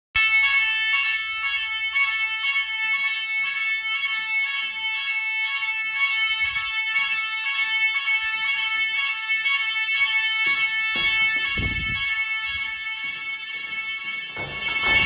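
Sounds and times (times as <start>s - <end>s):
fire alarm electronic tone: 0.1s - 15.0s
pulsing second alarm tone: 0.2s - 15.0s.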